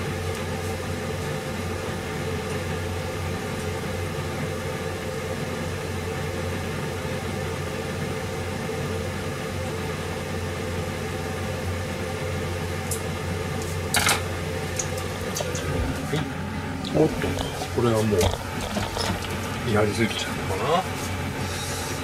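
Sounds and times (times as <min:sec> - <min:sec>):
gas stove hum and hiss: 0:00.0 - 0:22.0.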